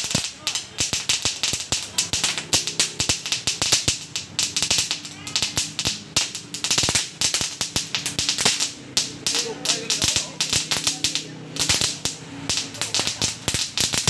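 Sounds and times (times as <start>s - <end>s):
firecracker belt bangs: 0.0s - 14.0s.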